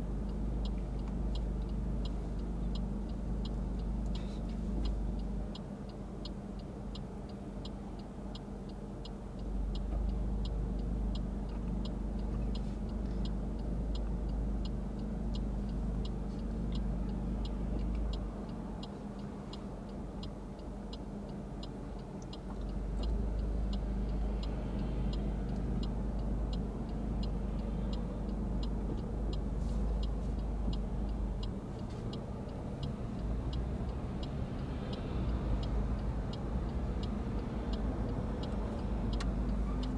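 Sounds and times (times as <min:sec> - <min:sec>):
low engine rumble: 0:00.0 - 0:39.9
passing road traffic: 0:00.0 - 0:39.9
turn signal ticking: 0:00.0 - 0:39.9.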